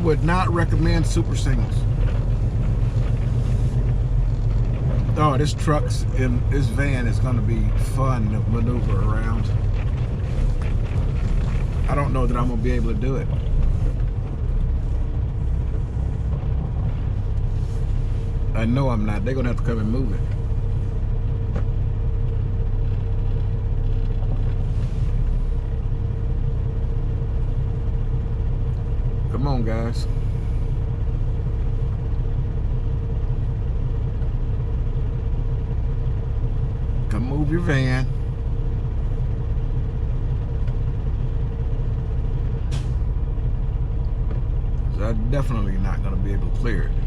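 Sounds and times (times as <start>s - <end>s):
truck diesel engine running: 0.0s - 47.0s.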